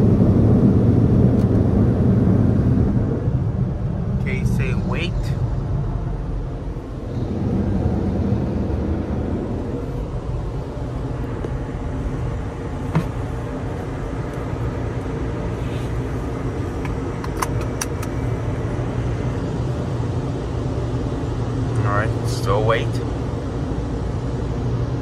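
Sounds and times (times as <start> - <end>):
car wash machinery rumbling: 0.0 - 25.0.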